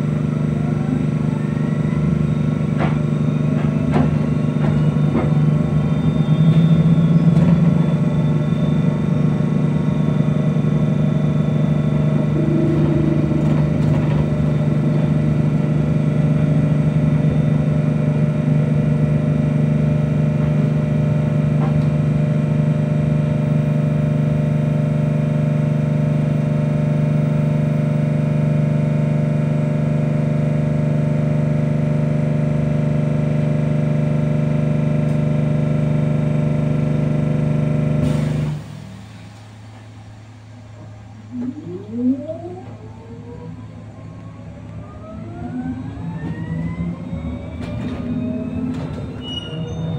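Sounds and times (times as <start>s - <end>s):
electric bus electrical hum: 0.0s - 49.9s.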